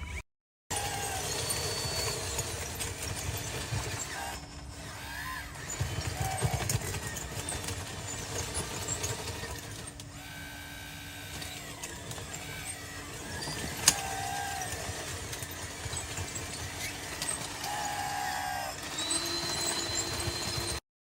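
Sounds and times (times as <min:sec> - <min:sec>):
small electric motors whining: 0:00.0 - 0:20.8.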